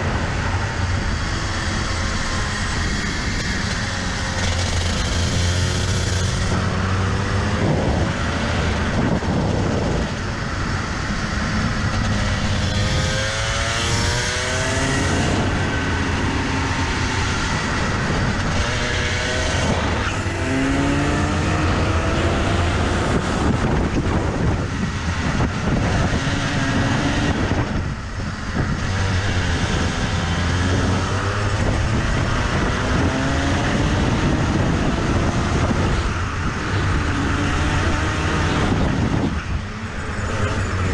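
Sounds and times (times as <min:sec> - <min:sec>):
kart engine racing: 0:00.0 - 0:40.9.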